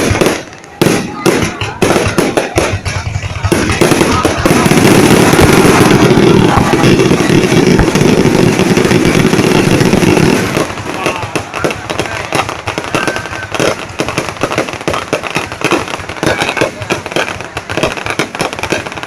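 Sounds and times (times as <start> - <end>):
fireworks bursting: 0.0 - 19.0
rapid crackling pops: 0.0 - 19.0.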